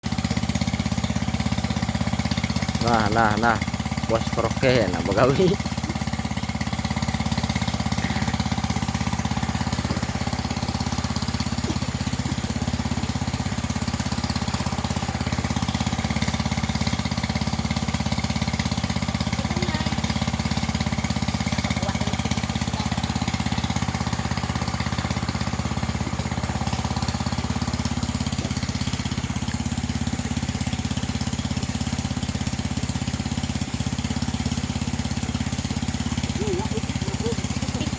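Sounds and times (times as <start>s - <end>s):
water pump engine running: 0.0s - 37.9s.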